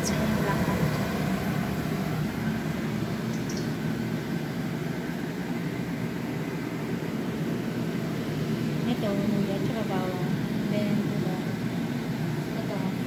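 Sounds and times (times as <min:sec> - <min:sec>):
low machine hum with hiss: 0:00.0 - 0:13.0.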